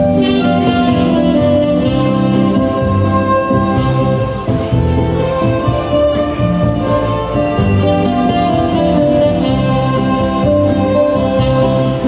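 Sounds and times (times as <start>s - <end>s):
guitar backing track: 0.0s - 12.0s
strings: 0.0s - 12.0s.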